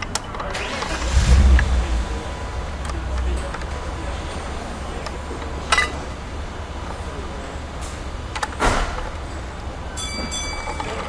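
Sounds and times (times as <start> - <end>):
garbage truck engine rumble: 0.4 - 10.0.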